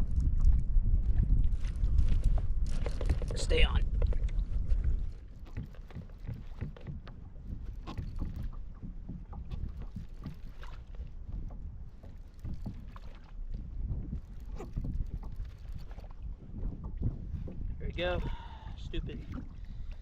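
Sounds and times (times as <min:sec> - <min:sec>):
water lapping against kayak hull: 0:00.0 - 0:20.0.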